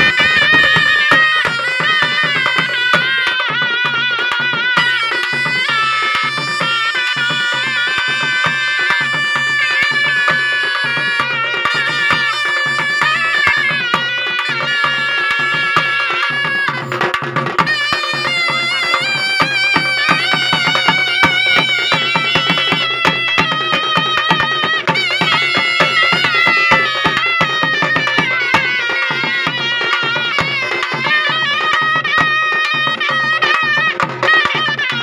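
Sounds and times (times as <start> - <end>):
ornamented folk melody: 0.0 - 35.0
steady drum rhythm: 0.0 - 35.0.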